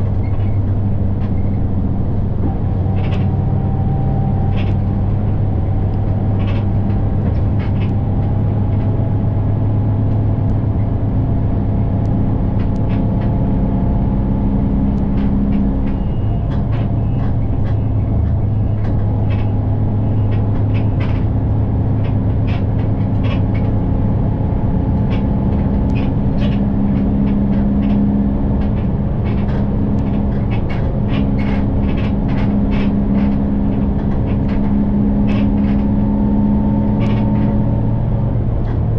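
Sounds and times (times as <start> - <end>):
light clicks and rattles: 0.0 - 10.9, 12.0 - 38.9
bus engine humming: 0.0 - 38.9.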